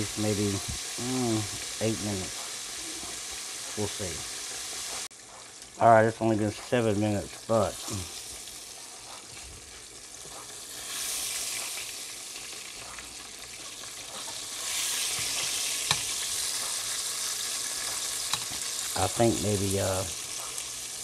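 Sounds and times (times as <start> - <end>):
fish deep-frying in oil: 0.0 - 21.0.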